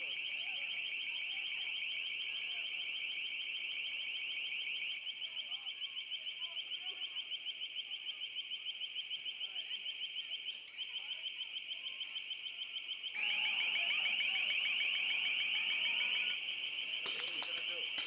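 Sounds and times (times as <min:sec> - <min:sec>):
electronic alarm pulsing beep: 0:00.0 - 0:18.0.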